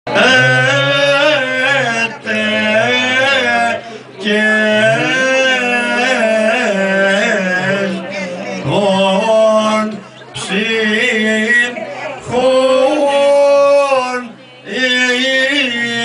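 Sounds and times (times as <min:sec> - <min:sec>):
man chanting a hymn: 0:00.1 - 0:16.0.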